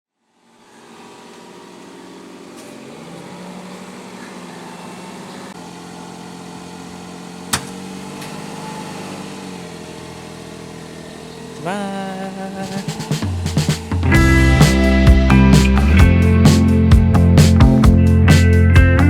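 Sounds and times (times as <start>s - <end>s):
engine-like hum: 0.2s - 19.0s.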